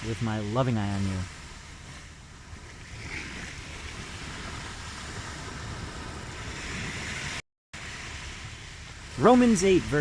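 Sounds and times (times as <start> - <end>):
ocean waves washing onto shore: 0.0 - 10.0.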